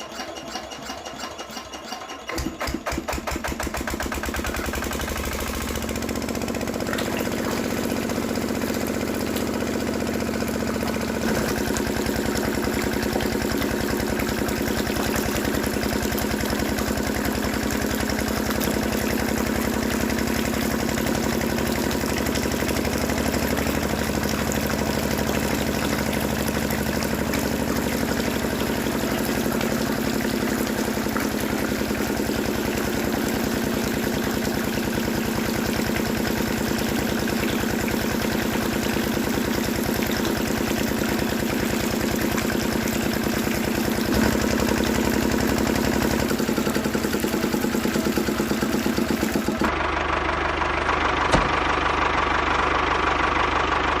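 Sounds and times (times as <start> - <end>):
small motor running with rattle: 0.0 - 49.8.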